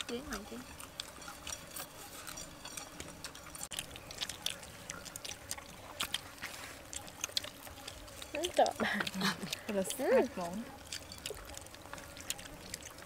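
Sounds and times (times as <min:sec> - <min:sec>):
wet chewing and slurping: 0:00.0 - 0:13.0.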